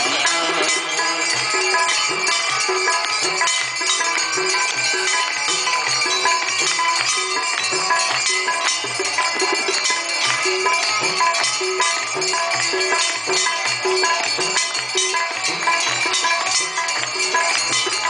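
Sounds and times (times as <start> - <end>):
hand bells ringing: 0.0 - 18.0
rhythmic percussion: 0.0 - 18.0.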